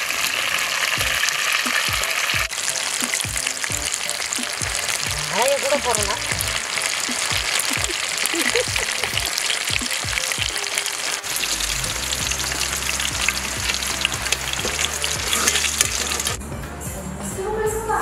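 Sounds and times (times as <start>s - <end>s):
fish frying in hot oil: 0.0s - 16.4s
background music with low notes: 0.9s - 18.0s.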